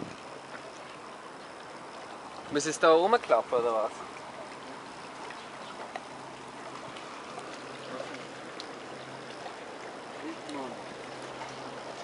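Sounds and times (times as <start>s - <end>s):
water lapping against pier: 0.0s - 12.0s.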